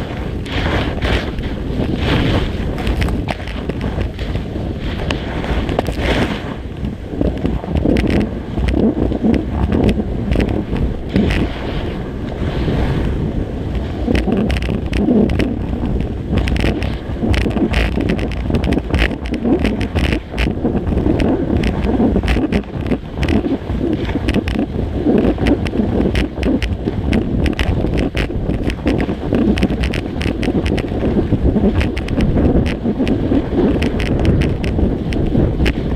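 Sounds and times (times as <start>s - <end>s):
sharp clicks and rattles: 0.0s - 11.7s, 13.7s - 35.9s
skis scraping over snow: 0.0s - 35.9s
wind buffeting microphone: 0.0s - 35.9s.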